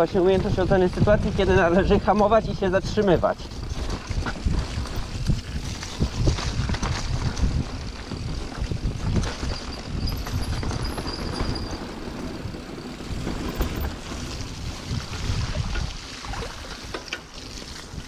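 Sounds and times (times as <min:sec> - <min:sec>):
tyres rumbling on dirt and stones: 0:00.0 - 0:16.1
bike clicks and rattles: 0:00.0 - 0:18.0
wind buffeting microphone: 0:00.0 - 0:18.0.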